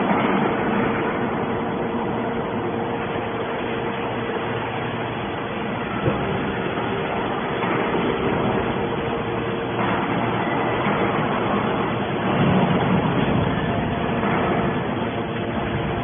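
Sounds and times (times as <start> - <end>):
scrap baler machinery hum: 0.0 - 16.0.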